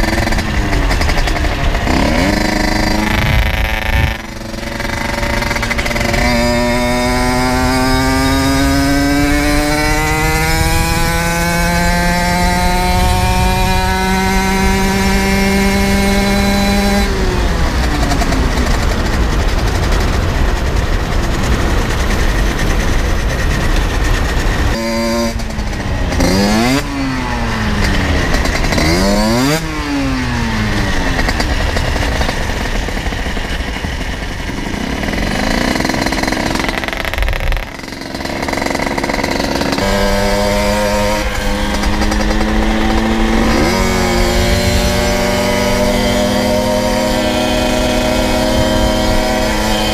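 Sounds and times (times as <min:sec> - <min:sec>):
two-stroke engine revving: 0:00.0 - 0:49.9
wind rushing over microphone: 0:00.0 - 0:49.9.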